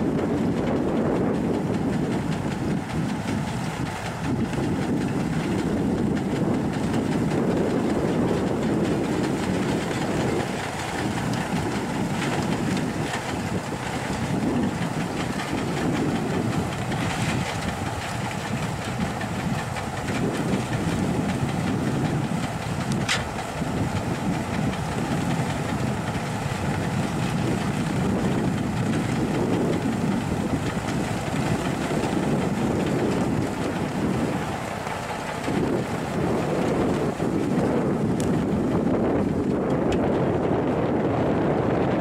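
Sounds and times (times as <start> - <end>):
snowblower churning snow: 0.0 - 42.0
truck engines rumbling: 0.0 - 42.0.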